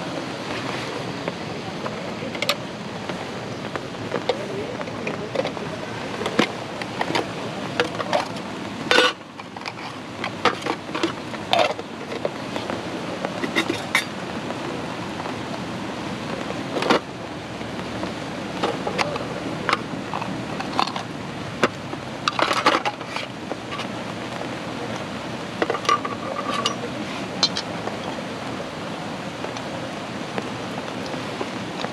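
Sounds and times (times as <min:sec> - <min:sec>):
steady background hiss: 0:00.0 - 0:31.9.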